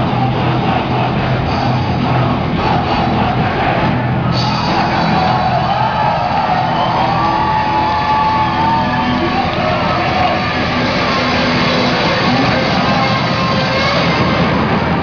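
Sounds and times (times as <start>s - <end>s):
crowd shouting along: 0.0s - 15.0s.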